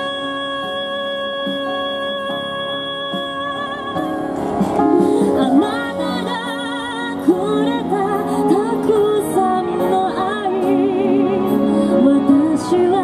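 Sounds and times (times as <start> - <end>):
backing music: 0.0 - 13.0
woman singing a ballad: 0.0 - 13.0.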